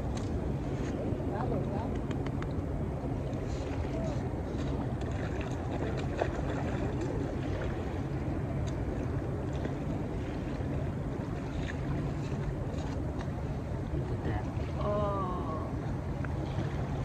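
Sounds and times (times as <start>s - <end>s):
steady low rumble: 0.0s - 17.0s
feet splashing in shallow water: 3.2s - 17.0s.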